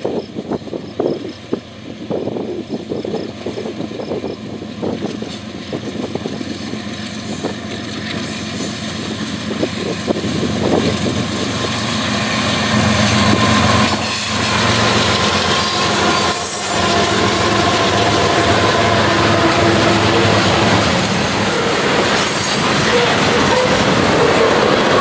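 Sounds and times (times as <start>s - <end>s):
diesel locomotive engines: 0.0s - 25.0s
freight cars rumbling: 0.0s - 25.0s.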